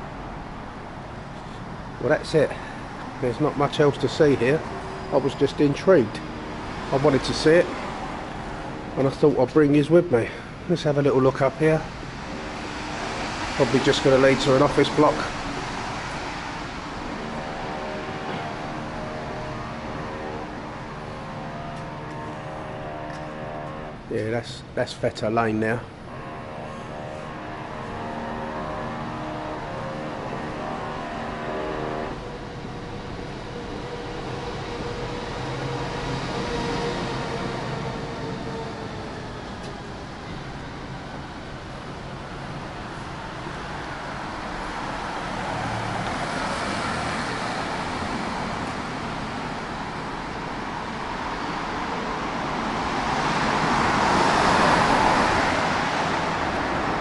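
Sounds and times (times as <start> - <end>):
passing cars: 0.0 - 57.0.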